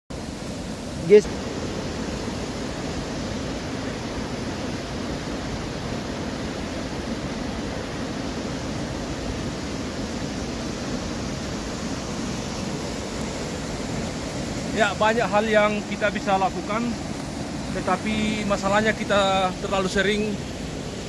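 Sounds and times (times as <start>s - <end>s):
waterfall rushing: 0.1s - 21.0s.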